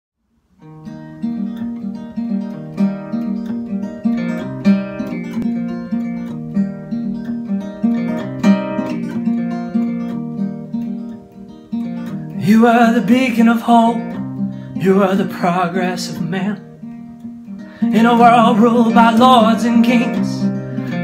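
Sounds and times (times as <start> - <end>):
acoustic guitar fingerpicking: 0.6 - 21.0.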